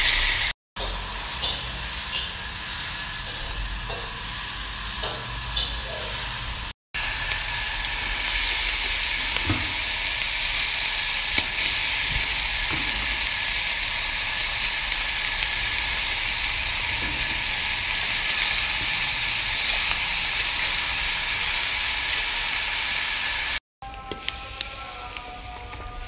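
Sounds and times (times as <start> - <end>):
rice sizzling in a pan: 0.0 - 26.0.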